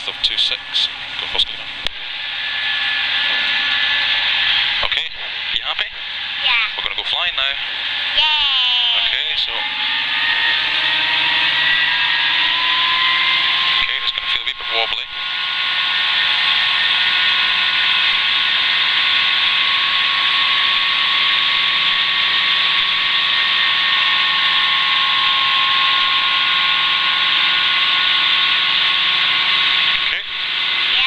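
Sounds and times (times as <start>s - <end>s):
helicopter engine and rotors inside cabin: 0.0s - 31.0s.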